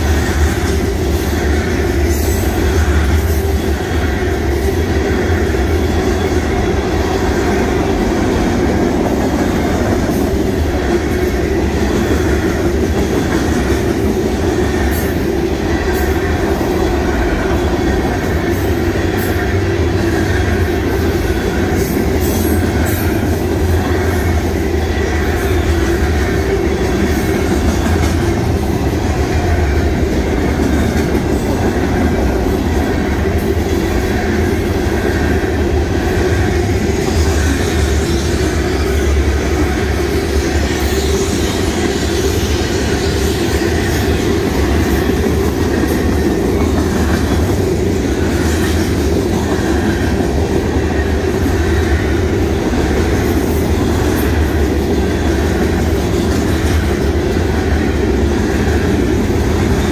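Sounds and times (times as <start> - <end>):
steel train wheels on rails: 0.0 - 59.9.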